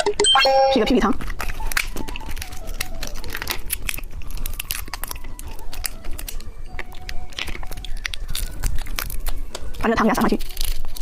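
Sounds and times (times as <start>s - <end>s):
candy packaging crinkling: 0.7s - 11.0s.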